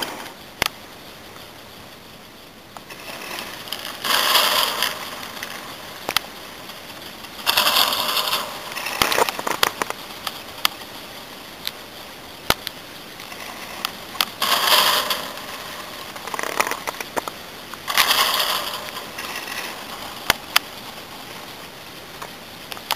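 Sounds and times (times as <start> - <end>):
sharp metallic clicks: 0.0 - 21.6
ski lift rope rattling rumble: 0.0 - 22.9.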